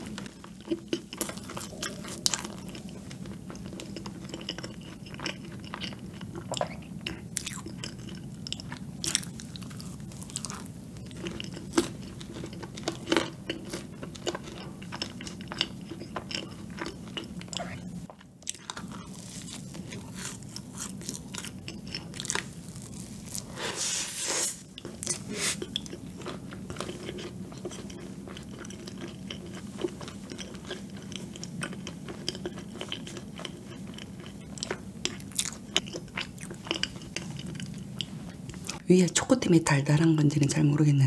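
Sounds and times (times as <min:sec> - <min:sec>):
chewing and biting donut: 0:00.0 - 0:23.6, 0:24.6 - 0:38.8
steady low hum: 0:00.0 - 0:41.0.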